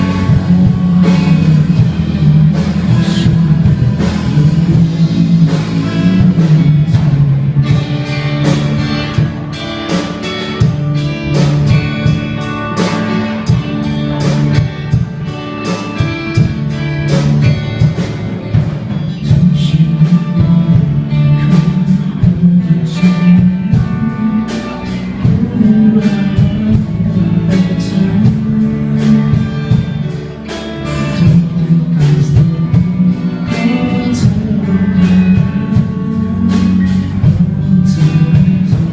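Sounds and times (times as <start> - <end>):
guitar: 0.0 - 38.9
person singing: 0.0 - 38.9
steady drum beat: 0.0 - 38.9.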